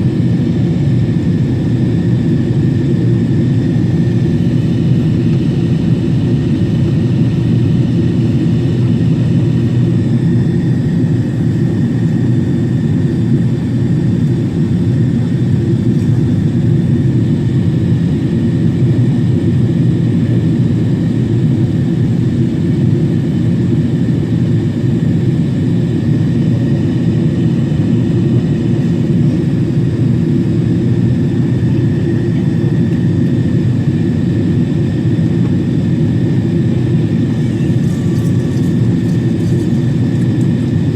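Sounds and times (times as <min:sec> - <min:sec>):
faint steady whines: 0:00.0 - 0:40.9
jet engines and rushing air: 0:00.0 - 0:40.9.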